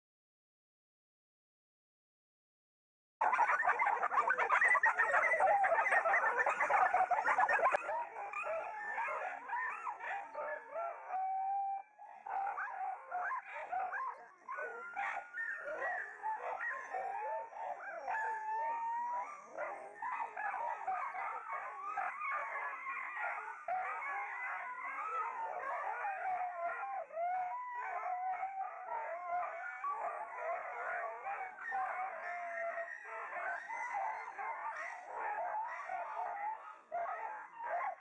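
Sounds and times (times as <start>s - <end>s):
dogs whining and yelping: 3.2s - 38.0s.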